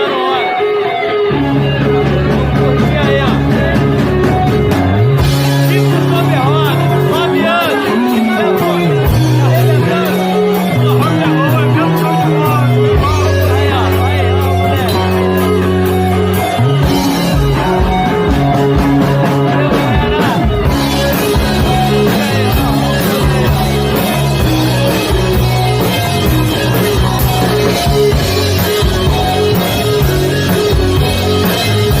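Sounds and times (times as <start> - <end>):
rock music with electric guitar: 0.0 - 32.0.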